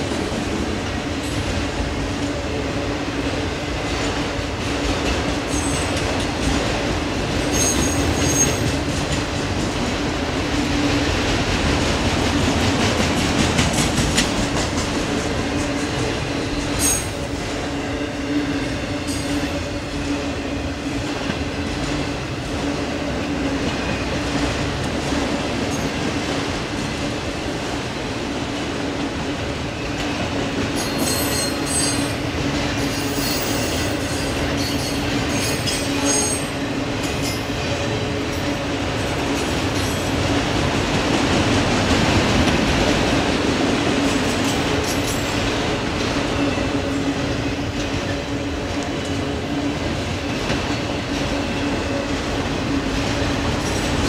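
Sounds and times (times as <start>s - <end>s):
train wheels rumbling over rail joints: 0.0s - 54.0s.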